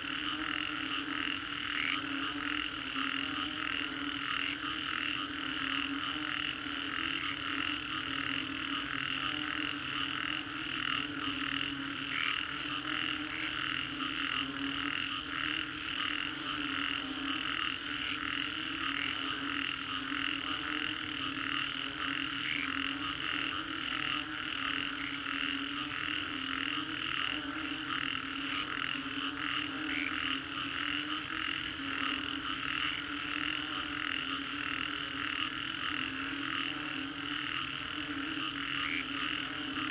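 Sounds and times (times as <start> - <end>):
frogs fast pulsed calls: 0.0 - 39.9
frogs low croaking: 0.0 - 39.9.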